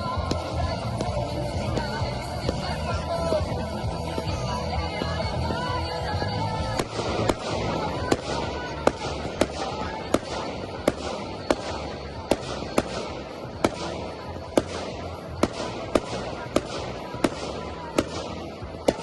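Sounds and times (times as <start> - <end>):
fireworks bangs: 0.0 - 19.0
fireworks crackling fizz: 0.0 - 19.0.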